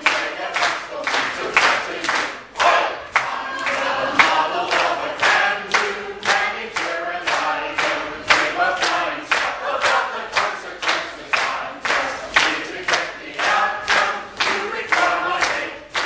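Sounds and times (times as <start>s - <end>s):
clap-like beat strokes: 0.0s - 16.0s
mixed choir singing: 0.0s - 16.0s.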